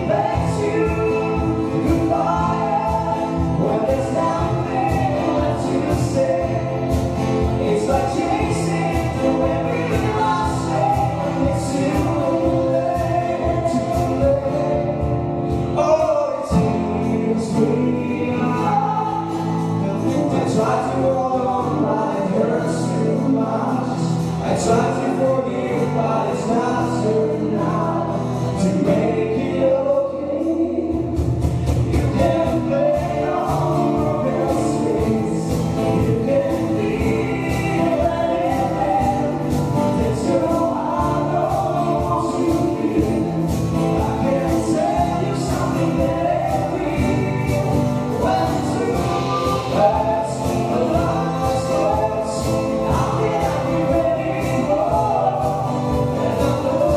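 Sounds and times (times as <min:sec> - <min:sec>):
acoustic guitar: 0:00.0 - 0:56.9
double bass: 0:00.0 - 0:56.9
drum kit: 0:00.0 - 0:56.9
keyboard: 0:00.0 - 0:56.9
voices singing together: 0:00.0 - 0:56.9.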